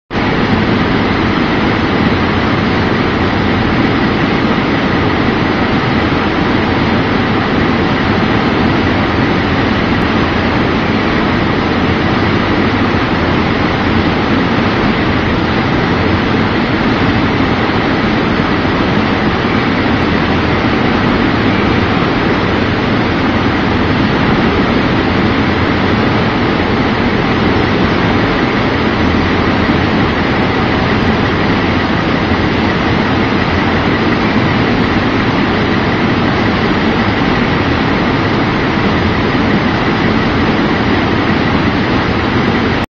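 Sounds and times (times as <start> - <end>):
screening machine running: 0.1 - 42.8.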